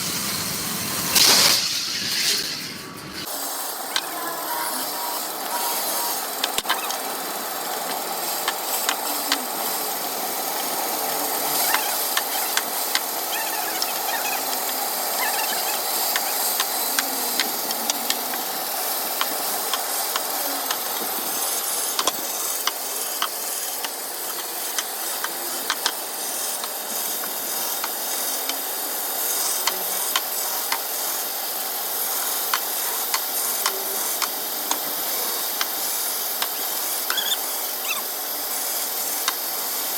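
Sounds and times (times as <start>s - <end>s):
blade hissing through wood: 0.0s - 39.9s.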